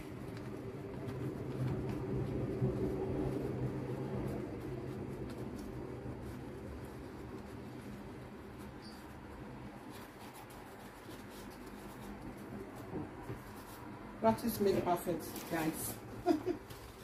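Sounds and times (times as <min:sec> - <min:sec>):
leaf rustling and tapping: 0:00.0 - 0:17.0
low steady hum: 0:00.0 - 0:17.0.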